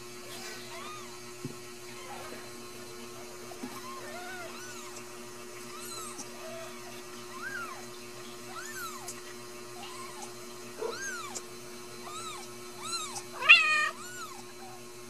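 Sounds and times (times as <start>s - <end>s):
kittens mewing: 0.3s - 1.2s, 3.7s - 14.8s.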